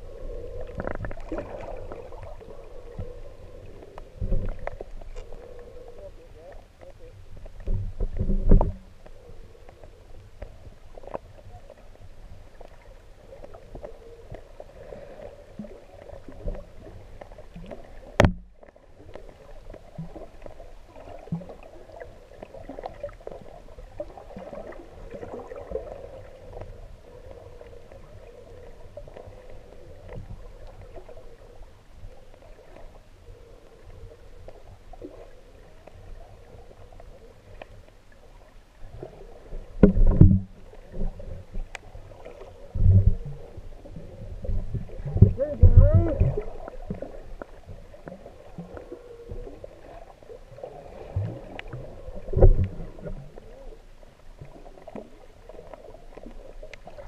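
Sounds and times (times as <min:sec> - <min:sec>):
muffled underwater water noise: 0:00.0 - 0:57.0.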